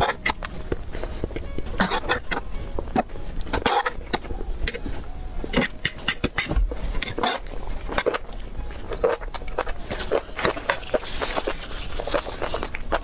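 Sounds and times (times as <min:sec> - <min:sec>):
chewing and crunching: 0:00.0 - 0:04.9, 0:05.6 - 0:13.0
low steady hum: 0:00.0 - 0:13.0.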